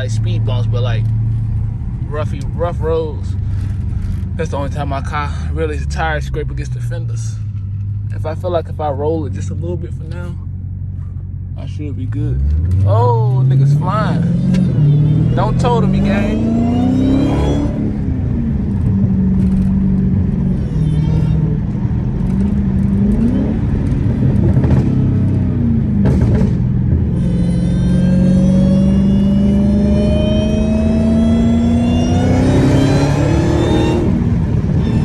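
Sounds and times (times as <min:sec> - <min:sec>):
car engine revving while driving: 0:00.0 - 0:35.0.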